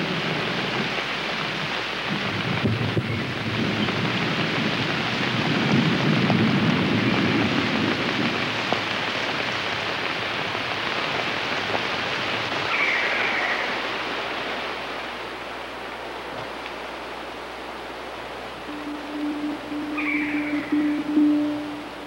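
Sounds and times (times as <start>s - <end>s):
thunder rumbling: 0.0s - 15.4s, 18.3s - 22.0s
heavy rain falling: 0.0s - 22.0s.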